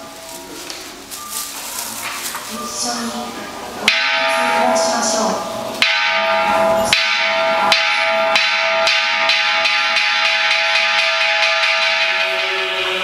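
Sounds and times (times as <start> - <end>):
temple bell ringing: 0.0 - 13.0.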